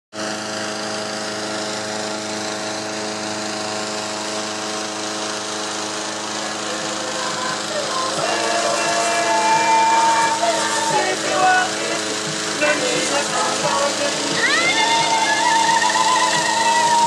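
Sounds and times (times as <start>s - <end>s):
small engine running: 0.2s - 17.0s
rushing whir: 0.4s - 17.0s.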